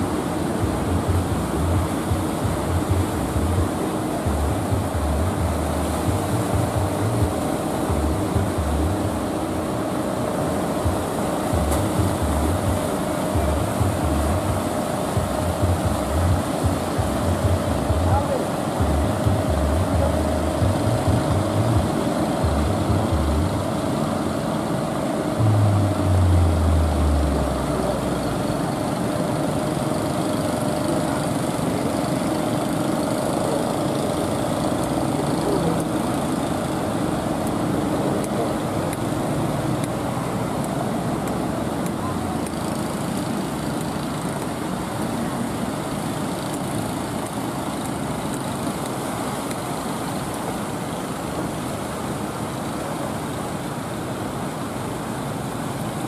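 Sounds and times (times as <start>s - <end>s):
boat engines running: 0.0s - 56.0s.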